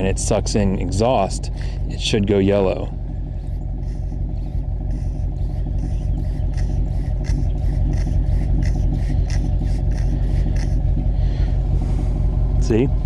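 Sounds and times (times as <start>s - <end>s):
car engine exhaust idling: 0.0s - 13.0s.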